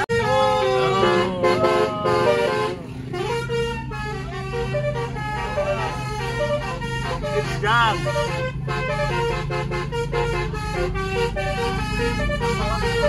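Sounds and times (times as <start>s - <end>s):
musical air horn melody: 0.0s - 13.0s
steady low drone: 0.0s - 13.0s.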